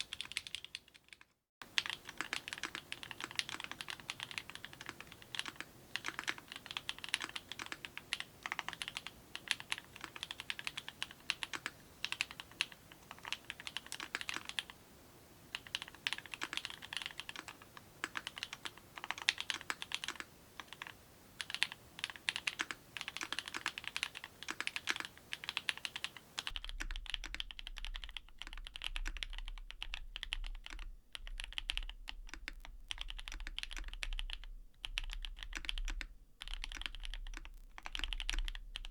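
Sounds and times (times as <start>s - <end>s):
mechanical keyboard typing: 0.0s - 14.7s, 15.5s - 38.9s.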